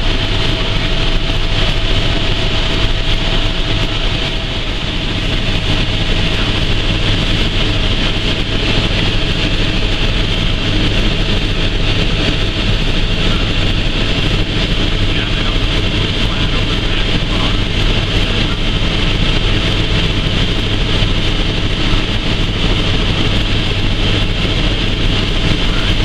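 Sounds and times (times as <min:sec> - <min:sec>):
helicopter engine and rotor drone: 0:00.0 - 0:26.0.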